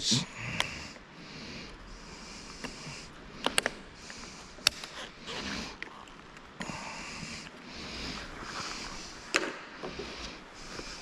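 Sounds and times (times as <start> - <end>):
person sniffing or breathing: 0.5 - 5.8, 6.6 - 11.0.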